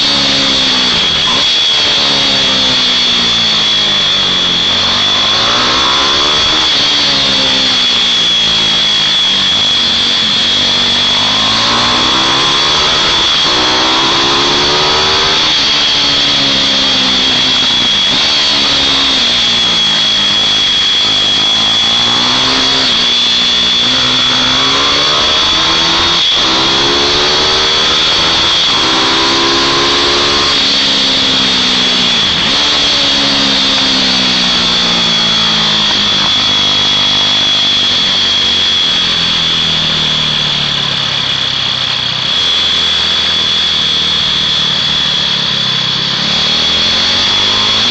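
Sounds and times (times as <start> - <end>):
mini bike engines racing: 0.0 - 47.9
steady high whine: 0.0 - 47.9.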